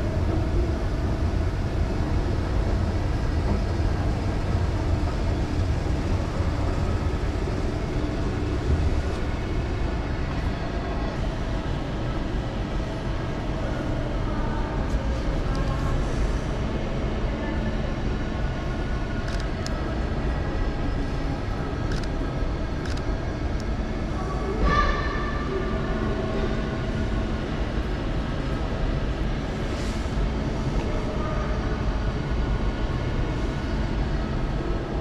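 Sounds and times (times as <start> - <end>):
train low rumble: 0.0 - 35.0.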